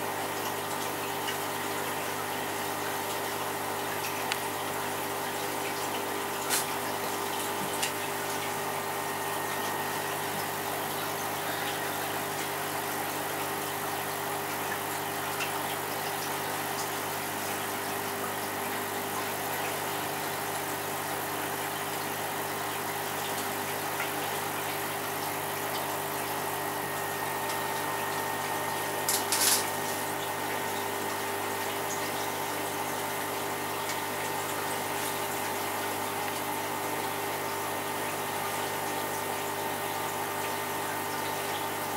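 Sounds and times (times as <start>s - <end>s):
aquarium pump humming: 0.0s - 41.9s
water running: 0.0s - 41.9s.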